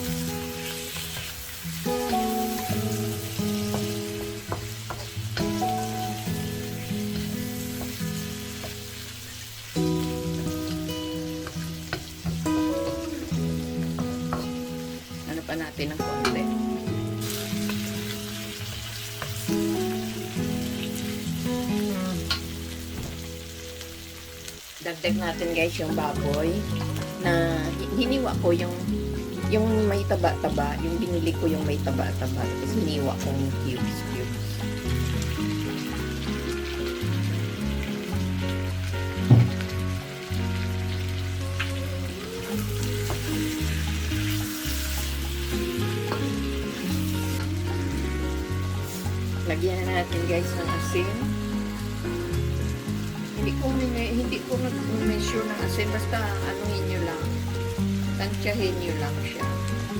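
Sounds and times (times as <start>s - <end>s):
background music of held notes: 0.0s - 59.9s
chicken sizzling in a pan: 0.0s - 59.9s.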